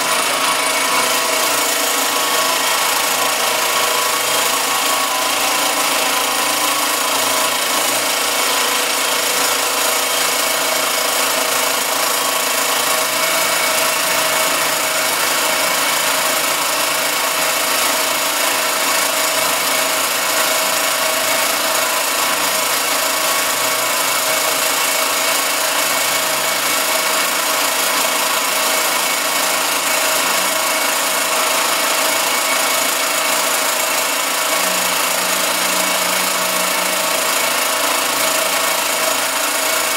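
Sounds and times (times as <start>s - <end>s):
machine whining tones: 0.0s - 39.9s
milling machine cutting metal: 0.0s - 39.9s.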